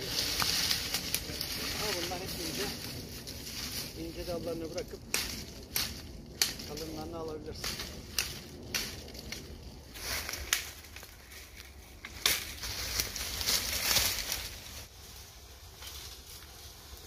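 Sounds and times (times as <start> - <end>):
dry branches snapping: 0.0 - 14.9
brush crackling and crunching: 0.0 - 17.0.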